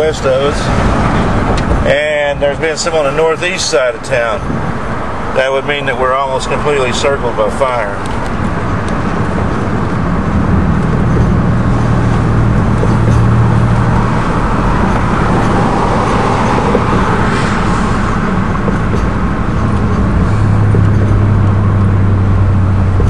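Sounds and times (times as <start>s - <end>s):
low engine hum: 0.0s - 23.0s
road and tyre noise: 0.0s - 23.0s.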